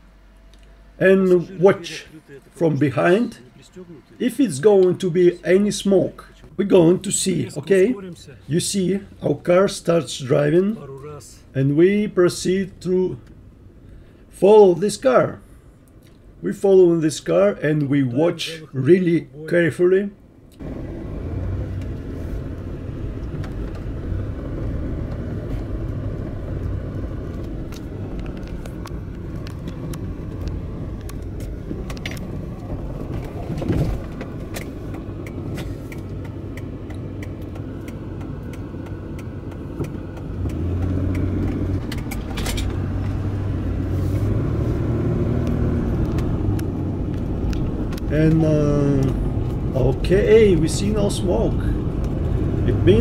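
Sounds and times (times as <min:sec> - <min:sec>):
car engine and road hum: 0:00.0 - 0:53.0.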